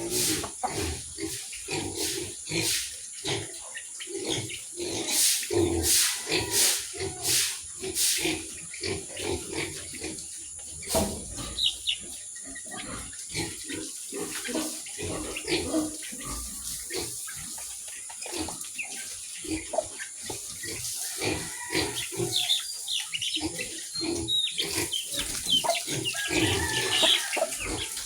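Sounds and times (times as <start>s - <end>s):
pigs grunting: 0.0s - 28.0s.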